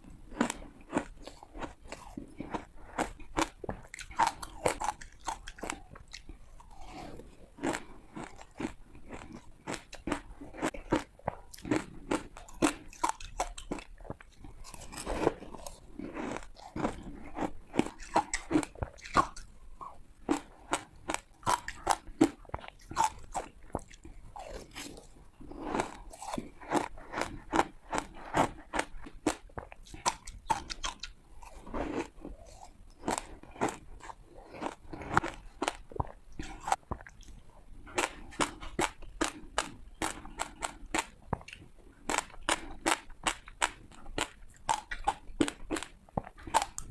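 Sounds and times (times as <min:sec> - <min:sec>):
ice crunching between teeth: 0:00.3 - 0:46.9.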